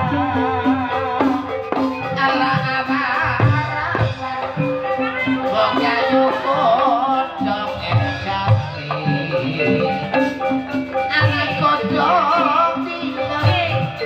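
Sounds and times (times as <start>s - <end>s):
drum strokes: 0.0s - 14.0s
metallophones ringing: 0.0s - 14.0s
wavering high melody: 0.0s - 14.0s.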